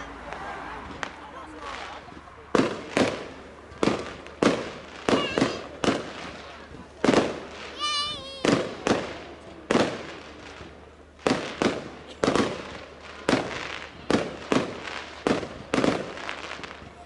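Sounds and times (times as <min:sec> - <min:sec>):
fireworks bangs: 0:00.1 - 0:17.0.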